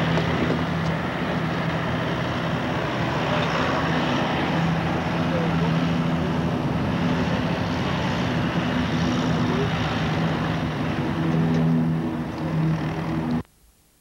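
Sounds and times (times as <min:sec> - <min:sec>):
aircraft engines roaring: 0:00.0 - 0:13.5.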